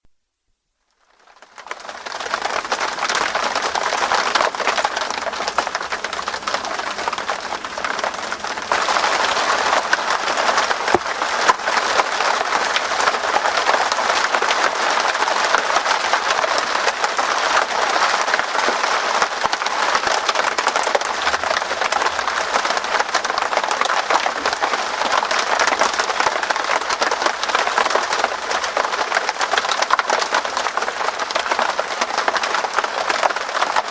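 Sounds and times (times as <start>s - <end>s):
rain pattering on tent fabric: 0.9s - 33.9s.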